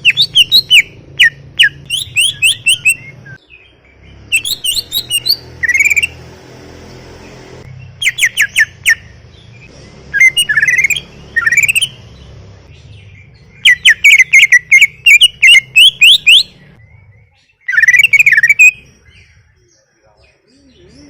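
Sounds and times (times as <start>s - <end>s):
bird whistling song: 0.0s - 6.2s, 7.7s - 21.0s.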